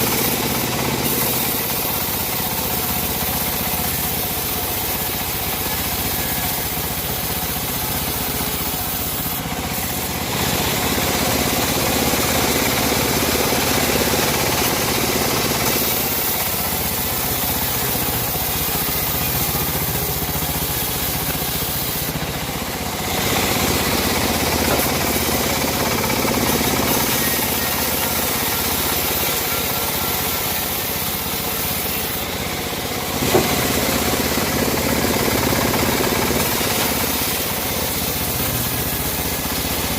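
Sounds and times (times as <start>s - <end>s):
bandsaw sawmill cutting wood: 0.0s - 39.9s.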